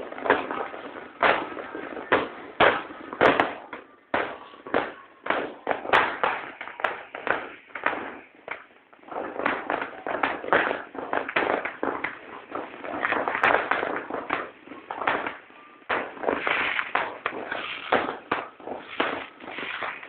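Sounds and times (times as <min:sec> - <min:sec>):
fireworks and firecrackers banging: 0:00.0 - 0:20.0.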